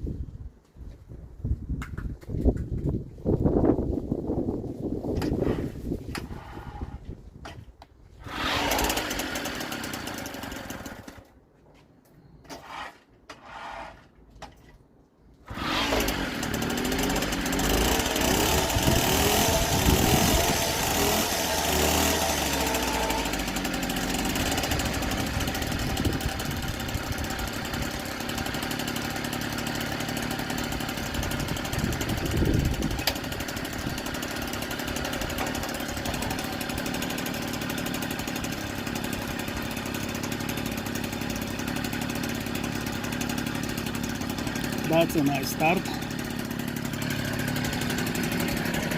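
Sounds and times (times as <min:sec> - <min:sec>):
moped engine starting and running: 0:05.0 - 0:11.4, 0:15.4 - 0:48.9.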